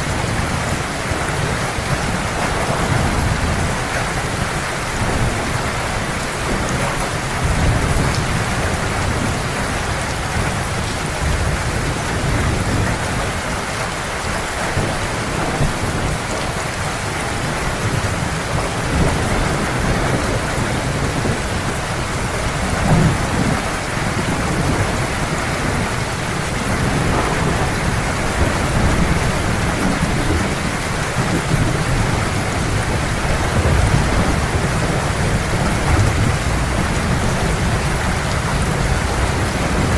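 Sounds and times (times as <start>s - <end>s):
heavy rain pouring: 0.0s - 39.9s
low thunder rumbling: 0.0s - 39.9s.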